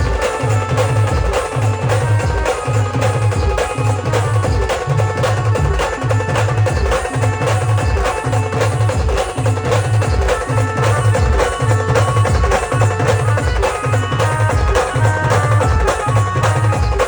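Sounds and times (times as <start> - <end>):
band playing rhythm piece: 0.0 - 17.0
heavy bass drum beats: 0.0 - 17.0.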